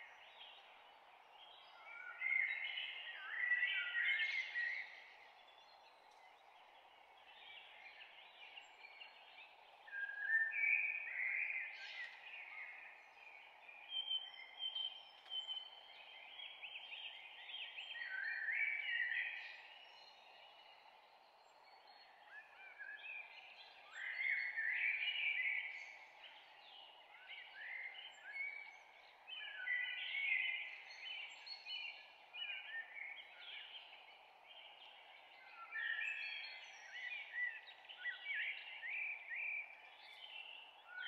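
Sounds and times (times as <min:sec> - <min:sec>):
many birds chirping: 0:00.0 - 0:41.0.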